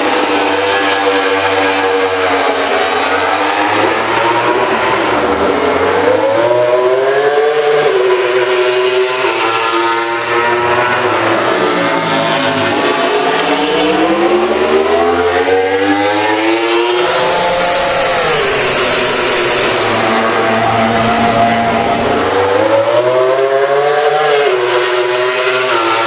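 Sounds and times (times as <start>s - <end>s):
racing motorcycles passing: 0.0s - 26.0s.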